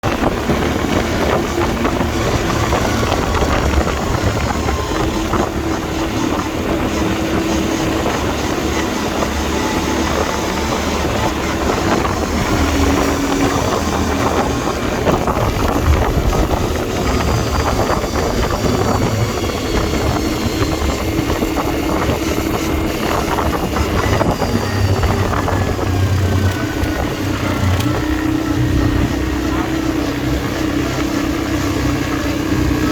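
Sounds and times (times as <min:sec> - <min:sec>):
quad bike engine running: 0:00.0 - 0:32.9
wind buffeting microphone: 0:00.0 - 0:32.9.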